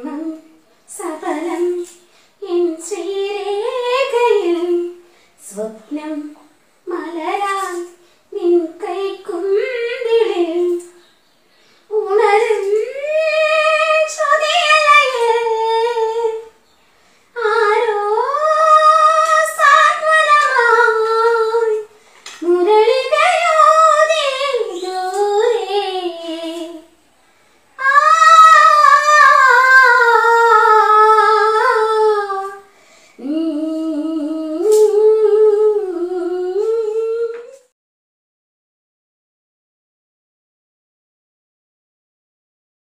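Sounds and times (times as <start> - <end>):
woman singing unaccompanied: 0.0 - 11.1, 11.9 - 16.7, 17.3 - 27.0, 27.8 - 37.7.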